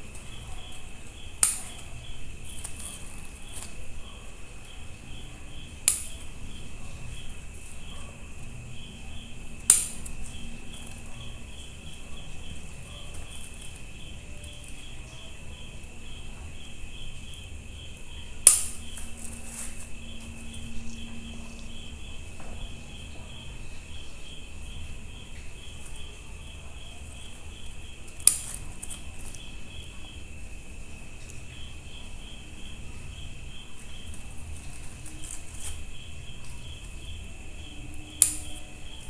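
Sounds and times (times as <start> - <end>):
cricket chirping: 0.0 - 39.0.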